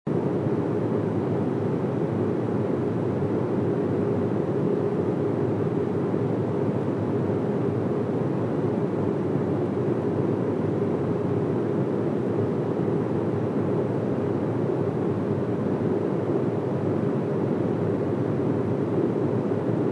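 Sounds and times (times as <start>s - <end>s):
airplane cabin engine rush: 0.1s - 19.9s
faint constant hum: 0.1s - 19.9s.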